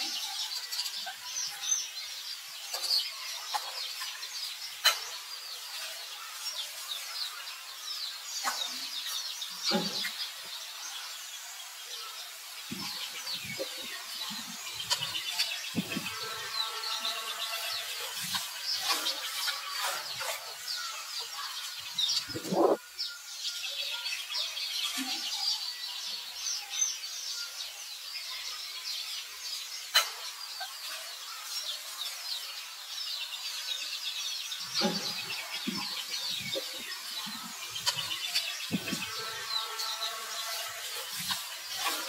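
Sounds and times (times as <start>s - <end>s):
birds chirping and twittering: 0.0s - 42.0s.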